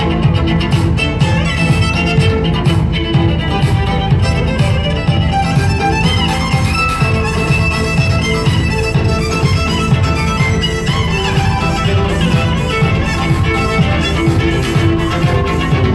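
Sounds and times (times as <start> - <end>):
backing track with steady beat: 0.0 - 15.9
cello playing: 0.0 - 15.9
violin playing: 0.0 - 15.9.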